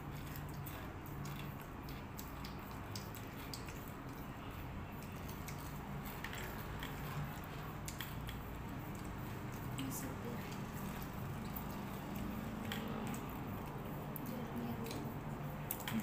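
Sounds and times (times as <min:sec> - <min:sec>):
low steady hum: 0:00.0 - 0:16.0
person chewing food: 0:00.0 - 0:16.0.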